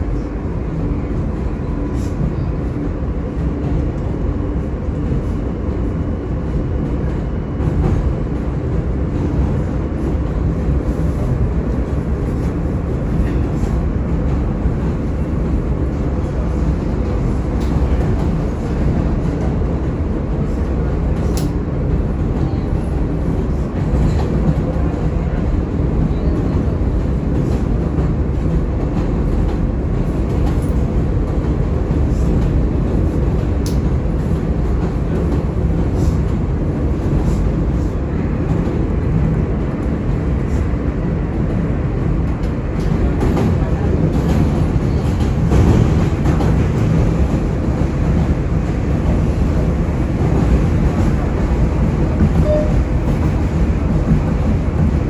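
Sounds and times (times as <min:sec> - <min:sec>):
subway wheels rumbling on rails: 0:00.0 - 0:55.0.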